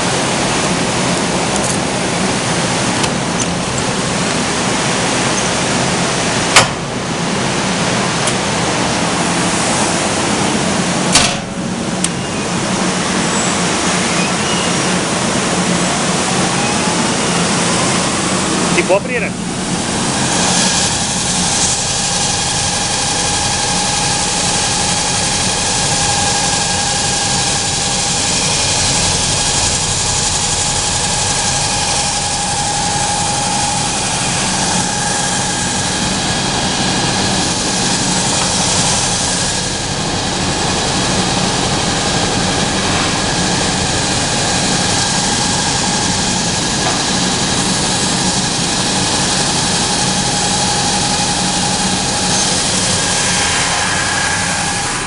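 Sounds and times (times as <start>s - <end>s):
sanding machine running: 0.0s - 55.0s.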